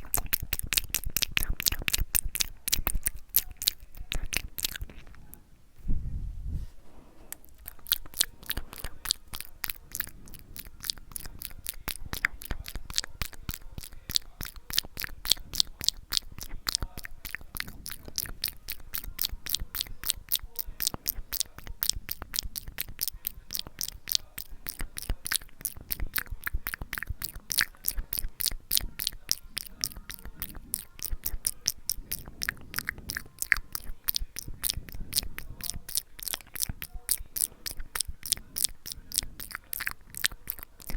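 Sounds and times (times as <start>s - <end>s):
wet tongue and lip clicks: 0.0s - 5.4s, 7.3s - 40.9s.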